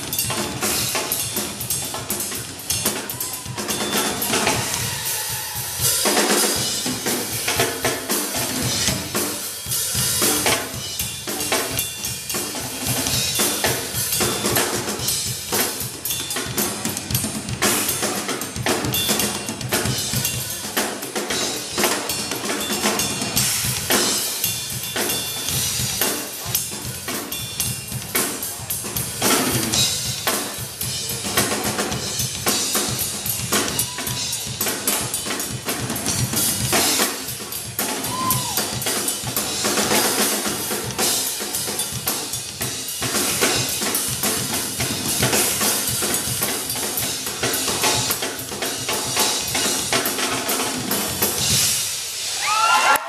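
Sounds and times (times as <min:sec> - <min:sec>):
fast drumming: 0:00.0 - 0:53.0.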